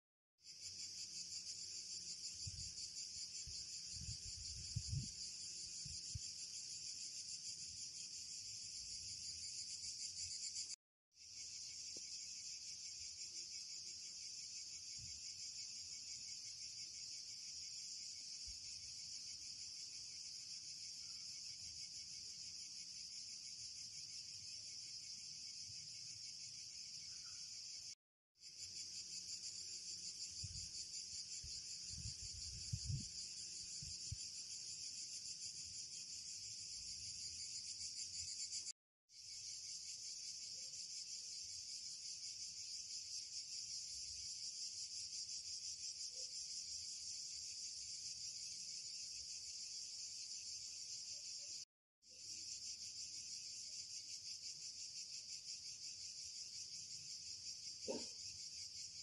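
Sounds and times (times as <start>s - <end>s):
insects chirping: 0.4s - 59.0s.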